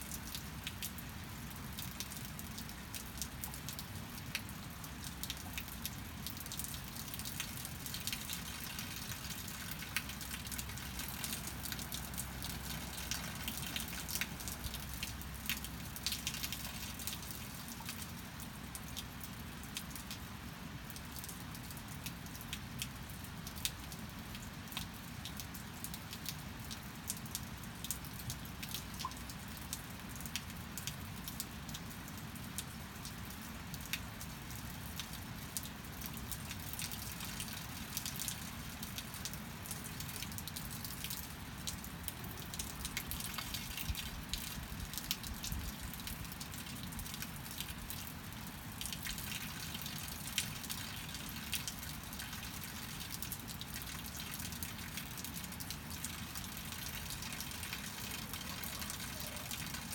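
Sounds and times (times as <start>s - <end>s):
steady rain falling: 0.0s - 59.9s
drops and drips striking close: 0.1s - 59.9s.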